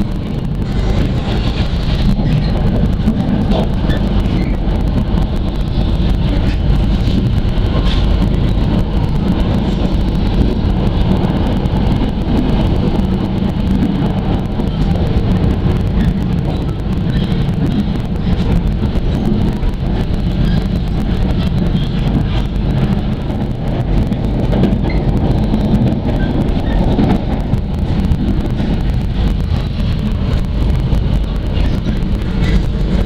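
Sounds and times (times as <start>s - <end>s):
train rumble and rail noise: 0.0s - 33.0s.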